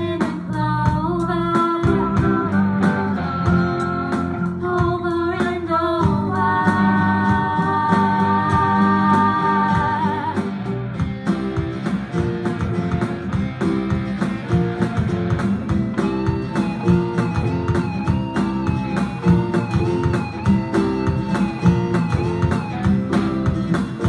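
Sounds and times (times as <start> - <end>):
bass and guitar chords: 0.0 - 24.0
bending lead guitar melody: 0.0 - 24.0
drums steady beat: 0.0 - 24.0.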